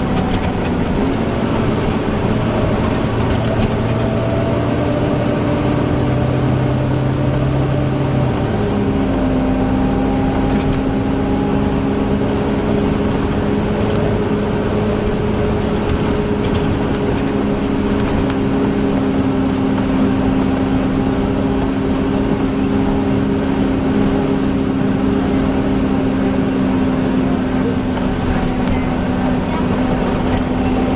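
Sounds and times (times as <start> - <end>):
bus engine: 0.0 - 30.9
loud hoover-like whine: 0.0 - 30.9.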